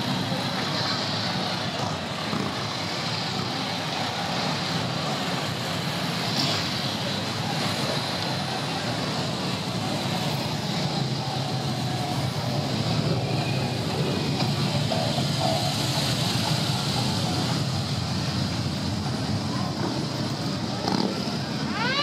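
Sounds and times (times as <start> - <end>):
motorcycles riding past: 0.0 - 21.9.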